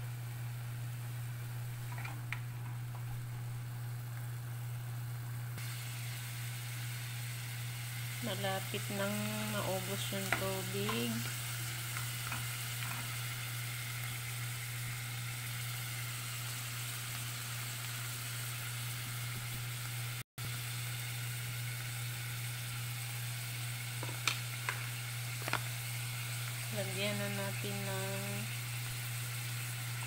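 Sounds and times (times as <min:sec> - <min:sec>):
meat sizzling in a pot: 0:00.0 - 0:30.0.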